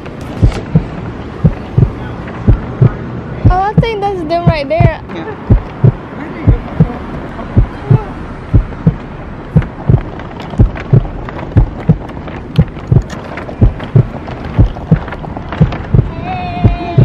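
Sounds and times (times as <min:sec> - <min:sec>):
heavy thumping heartbeat: 0:00.4 - 0:17.0.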